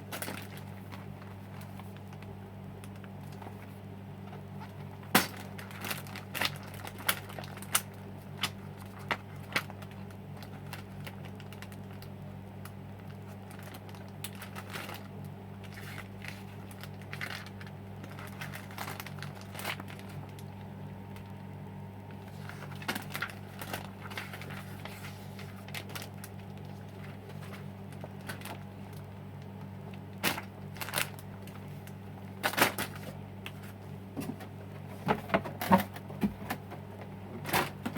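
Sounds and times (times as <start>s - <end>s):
packaging crinkling: 0.0s - 3.8s, 4.6s - 33.8s
low electrical hum: 0.0s - 37.9s.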